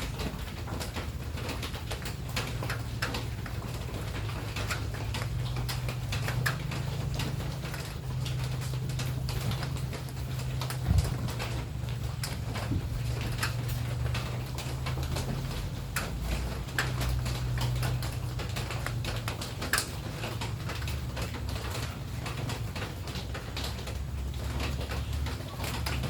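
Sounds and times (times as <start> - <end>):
raindrops ticking on hard surface: 0.0 - 26.0.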